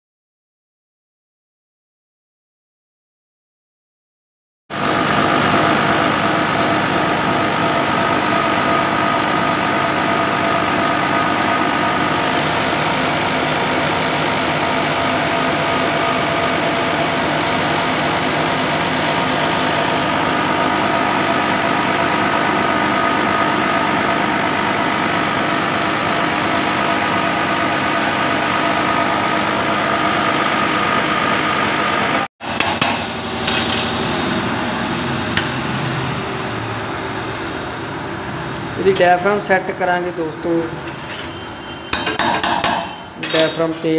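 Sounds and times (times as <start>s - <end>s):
fuel pump test bench running: 4.7s - 43.9s.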